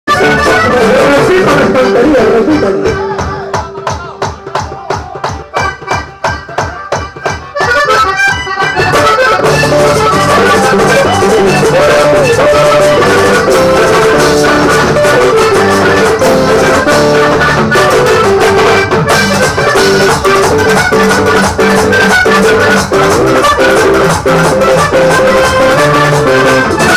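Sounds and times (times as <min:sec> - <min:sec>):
accordion melody: 0:00.1 - 0:26.9
acoustic guitar strumming: 0:00.1 - 0:26.9
live latin band music: 0:00.1 - 0:26.9.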